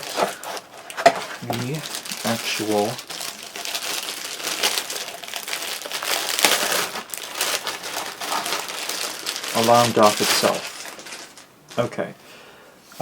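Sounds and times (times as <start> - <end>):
packaging crinkling and rustling: 0.0 - 12.1.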